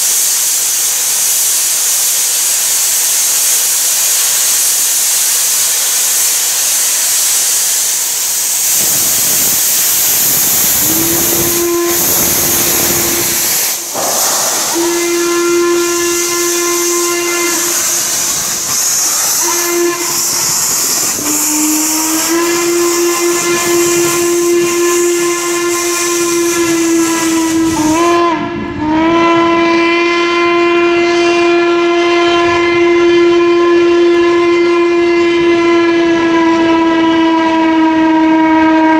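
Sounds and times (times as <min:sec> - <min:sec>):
steam hissing: 0:00.0 - 0:38.9
steam locomotive whistle: 0:00.0 - 0:38.9.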